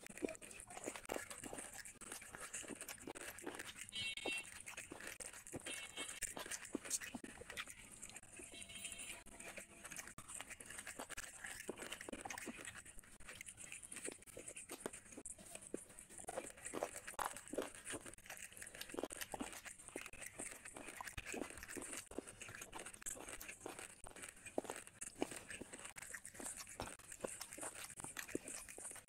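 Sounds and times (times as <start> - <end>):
fingers working rice on plate: 0.0 - 29.0
person chewing meat: 0.0 - 29.0.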